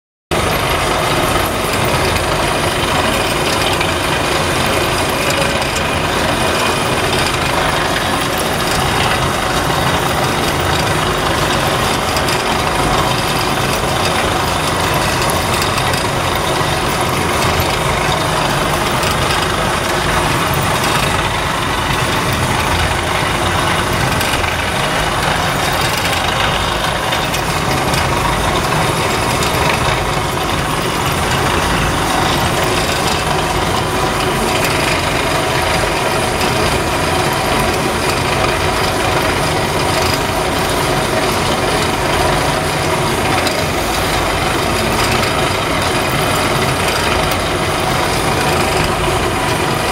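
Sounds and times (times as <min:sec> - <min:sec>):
machinery running steadily: 0:00.3 - 0:49.9.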